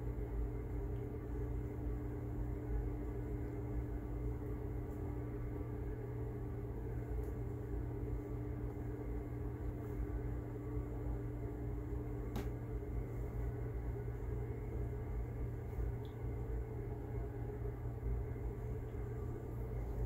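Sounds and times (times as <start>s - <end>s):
faint constant tone: 0.0s - 20.0s
low hum and rumble: 0.0s - 20.0s.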